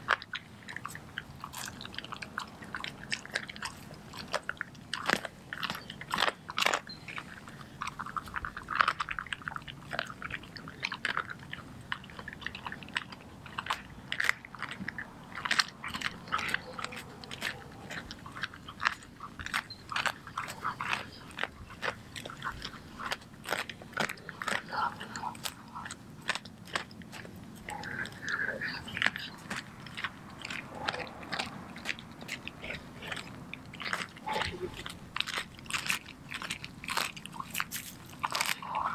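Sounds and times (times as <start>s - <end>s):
dog crunching bones: 0.0s - 38.9s.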